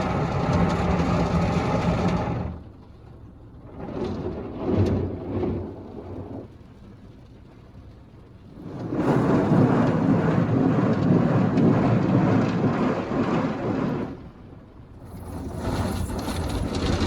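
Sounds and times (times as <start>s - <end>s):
car wash water and scrubbing: 0.0s - 17.0s.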